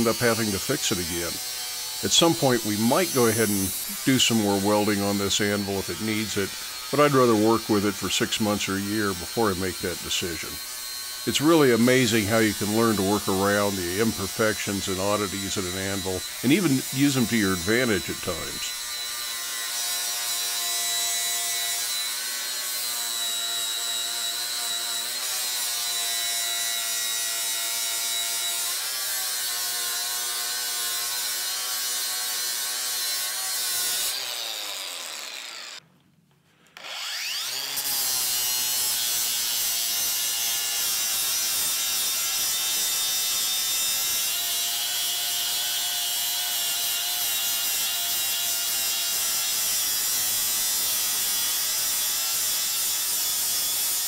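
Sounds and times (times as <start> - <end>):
angle grinder grinding steel: 0.0 - 35.8, 36.8 - 54.0.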